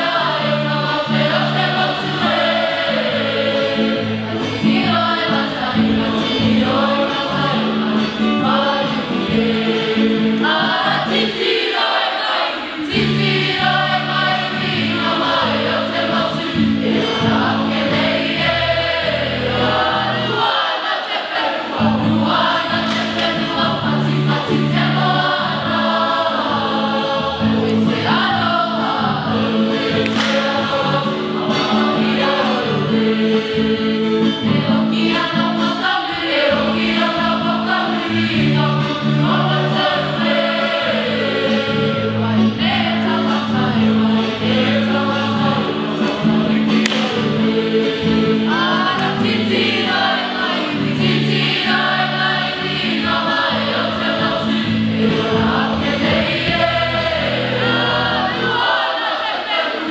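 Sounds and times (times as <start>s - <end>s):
held accompaniment chords: 0.0s - 59.1s
choir singing: 0.0s - 59.9s.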